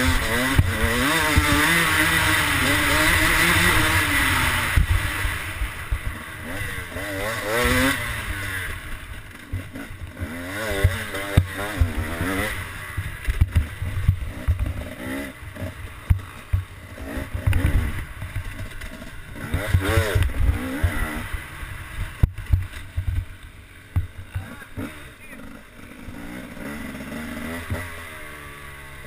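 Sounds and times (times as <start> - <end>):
motocross bike engine revving: 0.0 - 29.0.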